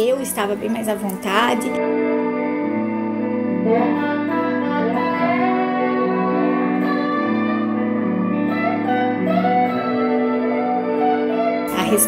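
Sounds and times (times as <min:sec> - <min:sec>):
electric guitar held notes: 0:01.0 - 0:12.0.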